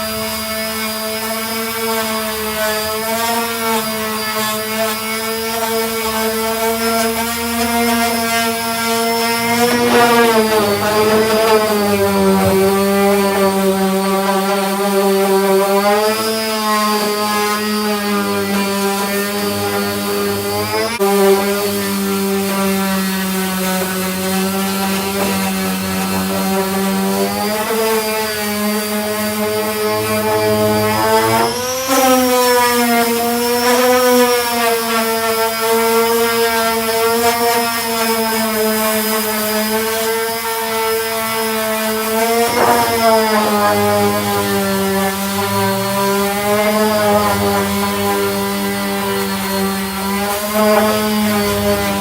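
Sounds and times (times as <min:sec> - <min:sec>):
disc sander sanding: 0:00.0 - 0:52.0.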